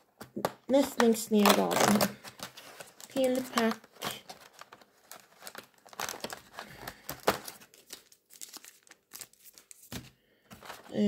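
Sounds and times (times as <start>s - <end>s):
foil pack crinkling and tearing: 1.1s - 11.0s.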